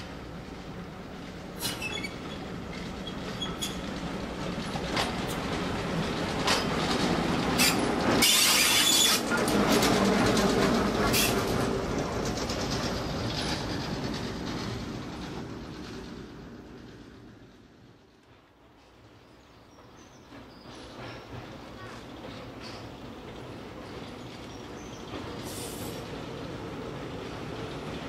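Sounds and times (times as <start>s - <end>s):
diesel train passing: 0.0s - 28.0s
wheels clicking over rail joints: 0.7s - 17.4s, 20.2s - 28.0s.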